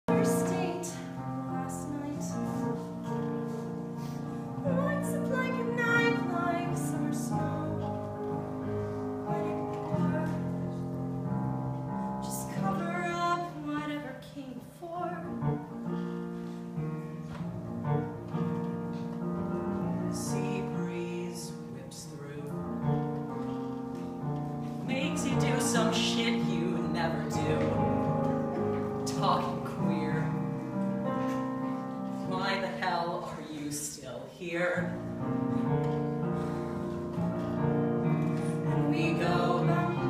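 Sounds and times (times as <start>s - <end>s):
piano accompaniment: 0.0s - 40.0s.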